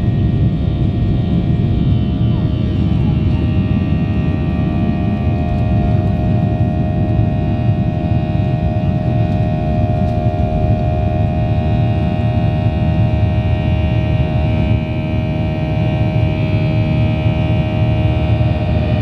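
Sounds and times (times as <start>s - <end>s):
jet engine rumble: 0.0s - 19.0s
multi-tone engine whine: 0.0s - 19.0s.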